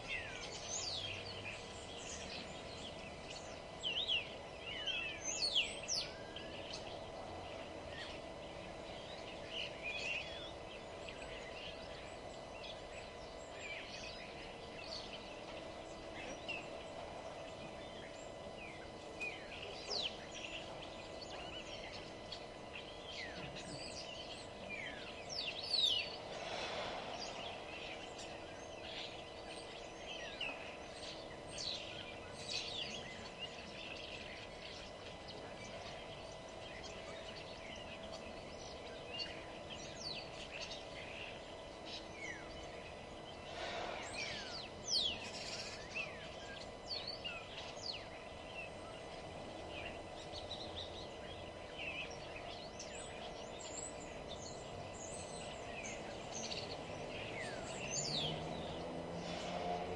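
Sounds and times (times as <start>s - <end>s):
low background hum: 0.0s - 59.9s
songbirds chirping and singing: 0.0s - 59.9s.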